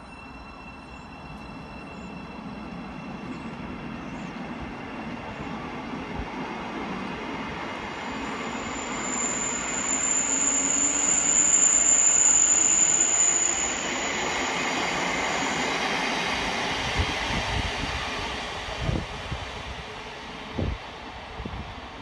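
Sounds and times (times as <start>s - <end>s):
high-pitched train whine: 0.0s - 22.0s
train rushing past platform: 0.0s - 22.0s.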